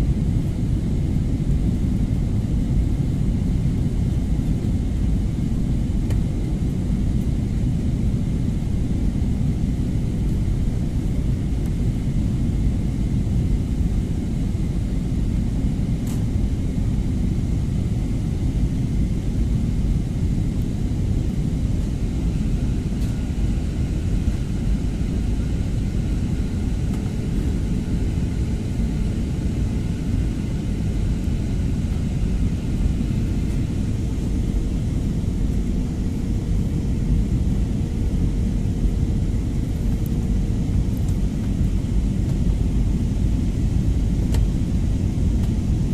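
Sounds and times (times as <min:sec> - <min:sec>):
airliner engines rumbling: 0:00.0 - 0:45.9
faint steady hum: 0:00.0 - 0:45.9.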